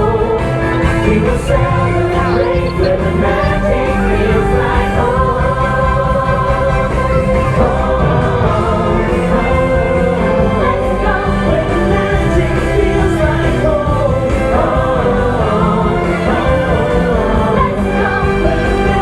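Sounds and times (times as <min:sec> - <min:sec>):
full band backing: 0:00.0 - 0:19.0
group singing stage-show music: 0:00.0 - 0:19.0.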